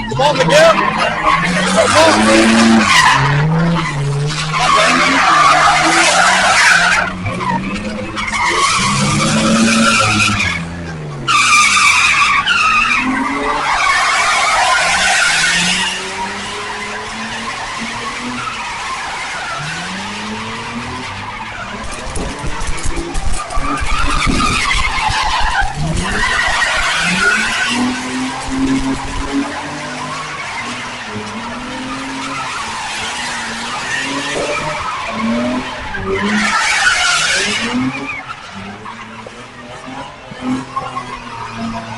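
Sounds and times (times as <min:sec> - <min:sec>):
car engine revving: 0:00.0 - 0:41.9
tyres squealing: 0:00.0 - 0:41.9.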